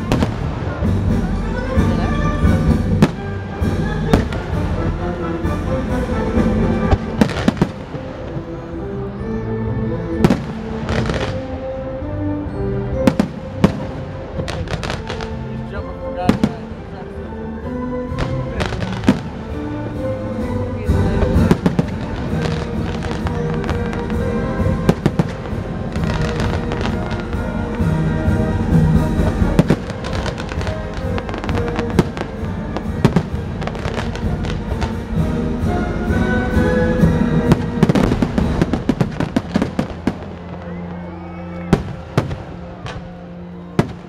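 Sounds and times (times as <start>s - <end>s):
fireworks banging: 0.0s - 5.0s, 5.9s - 8.6s, 10.2s - 11.6s, 13.0s - 15.4s, 18.1s - 20.0s, 20.8s - 41.0s, 41.7s - 43.2s, 43.8s - 44.0s
loud music: 0.0s - 44.0s.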